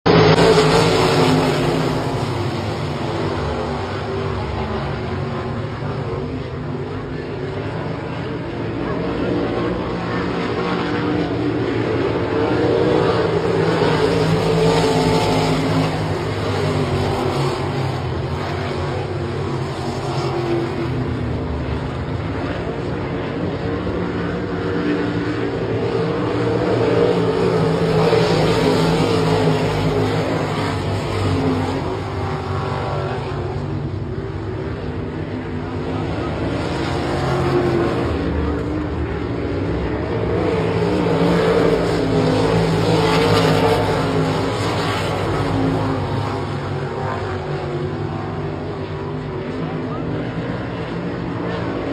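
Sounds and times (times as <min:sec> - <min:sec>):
race car engines at full throttle: 0:00.0 - 0:51.9.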